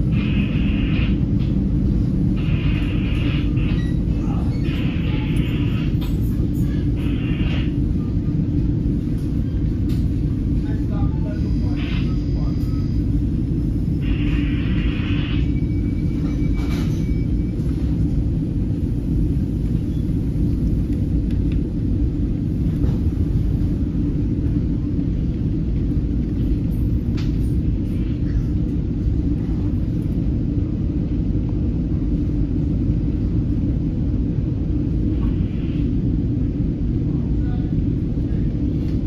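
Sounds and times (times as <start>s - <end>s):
train coach low rumble: 0.0s - 39.0s.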